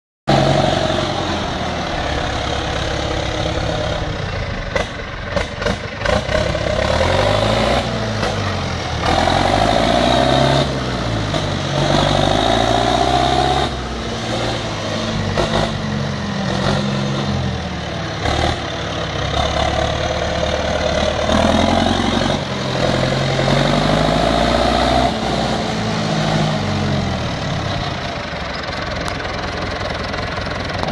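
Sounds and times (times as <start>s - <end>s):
tractor diesel engine revving: 0.3s - 30.9s.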